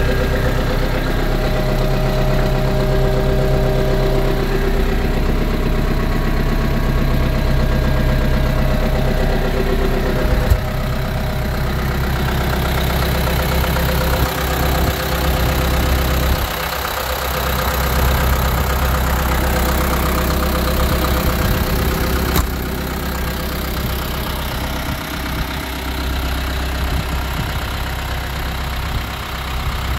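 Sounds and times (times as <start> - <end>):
tractor diesel engine idling: 0.0 - 29.9.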